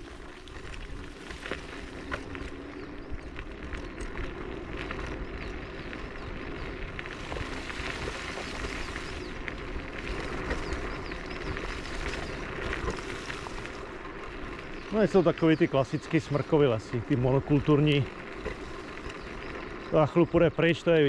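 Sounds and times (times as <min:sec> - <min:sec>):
tyres crunching over gravel: 0:00.0 - 0:21.0.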